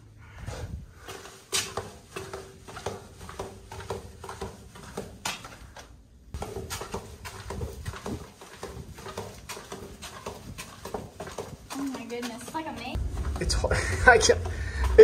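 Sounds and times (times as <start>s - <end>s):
footsteps in brick tunnel: 0.0s - 15.0s.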